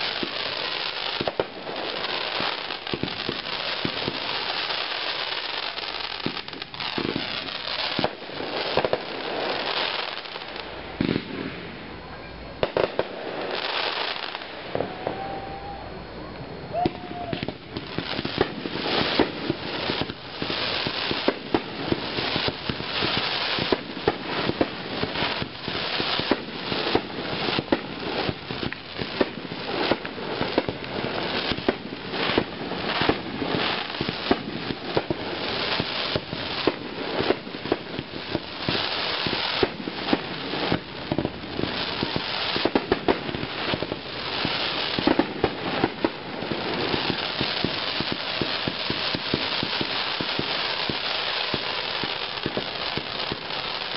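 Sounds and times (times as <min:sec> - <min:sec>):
fireworks bangs: 0:00.0 - 0:53.9
fireworks crackling: 0:00.0 - 0:53.9.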